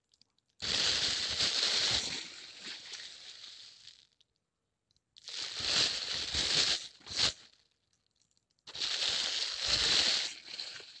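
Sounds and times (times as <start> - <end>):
plastic crinkling: 0.1 - 4.3, 5.2 - 11.0.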